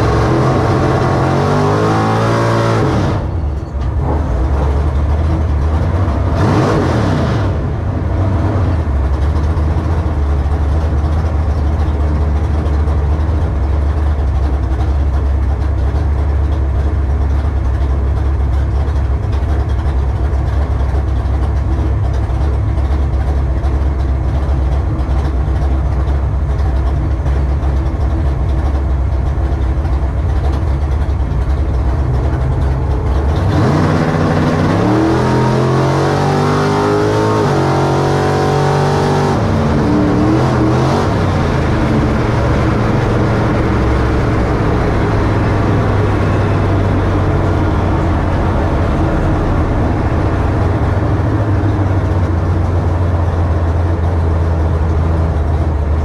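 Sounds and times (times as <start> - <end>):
truck engine idling and revving: 0.0 - 56.0.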